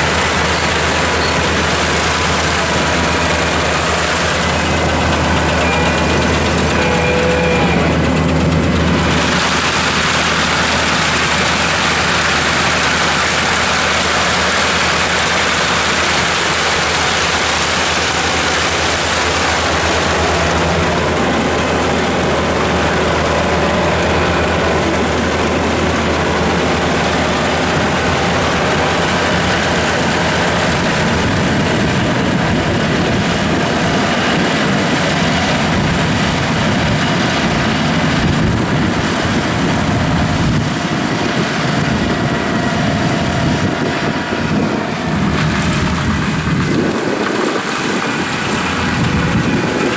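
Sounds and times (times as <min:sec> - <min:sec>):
combine harvester running: 0:00.0 - 0:49.9.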